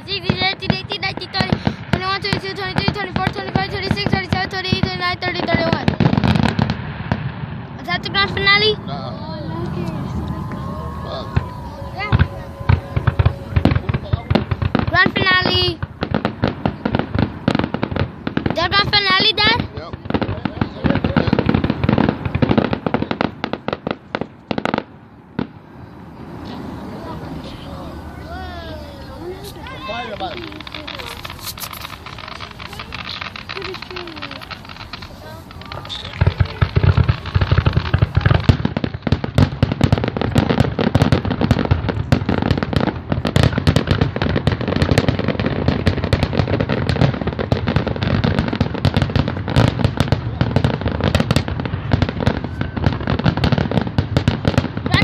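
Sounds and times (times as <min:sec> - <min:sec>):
fireworks banging: 0:00.0 - 0:55.0.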